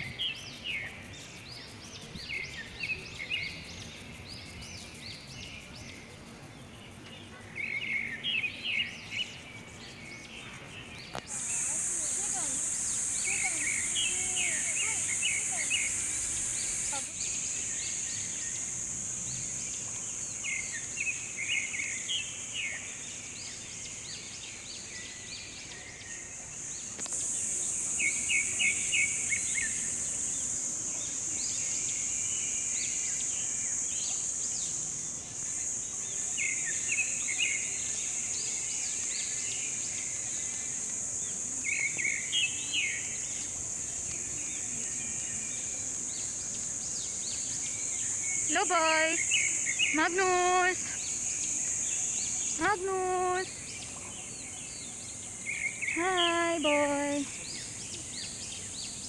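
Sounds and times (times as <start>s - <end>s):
high-pitched insect drone: 0.0s - 58.9s
small birds chirping: 0.0s - 59.0s.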